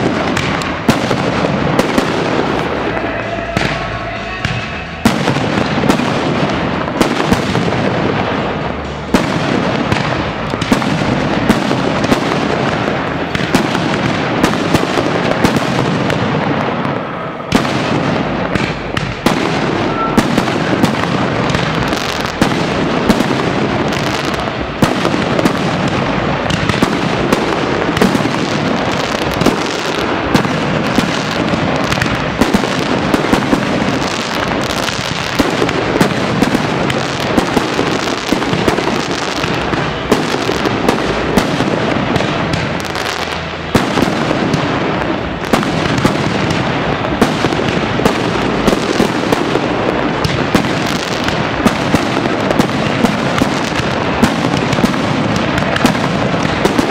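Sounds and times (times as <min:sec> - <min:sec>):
fireworks bursting and crackling: 0:00.0 - 0:56.9
sharp fireworks bangs: 0:00.0 - 0:56.9.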